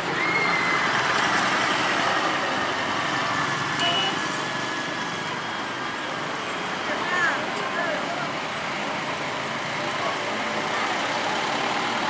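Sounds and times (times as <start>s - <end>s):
truck and road traffic: 0.0s - 12.0s.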